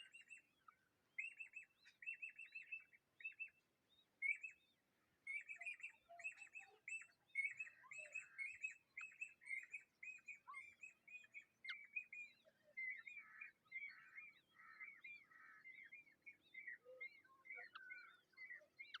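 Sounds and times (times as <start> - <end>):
bird chirping: 0.0 - 19.0
faint lower bird calls: 0.0 - 19.0.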